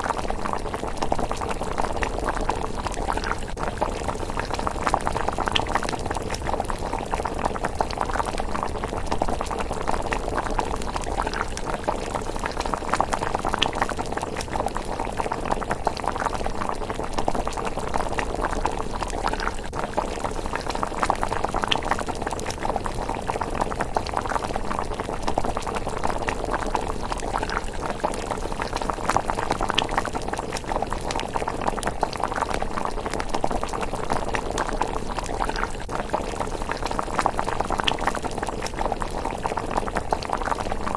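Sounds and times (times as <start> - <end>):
porridge bubbling: 0.0 - 40.9.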